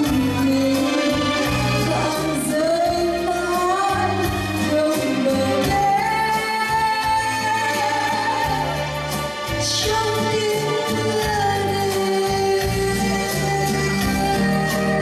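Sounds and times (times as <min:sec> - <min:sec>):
bass line: 0:00.0 - 0:15.0
woman singing into microphone: 0:00.0 - 0:15.0.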